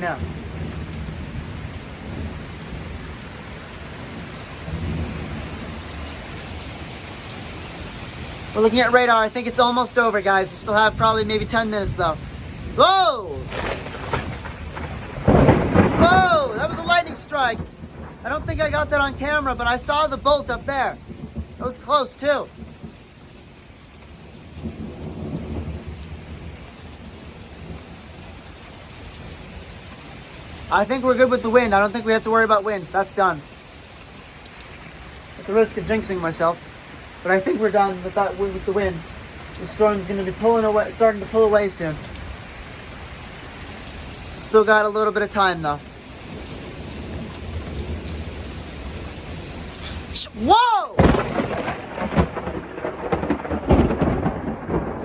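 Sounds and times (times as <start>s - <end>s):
thunder rumbling: 0.0s - 33.6s, 34.2s - 55.0s
heavy rain falling: 0.0s - 55.0s.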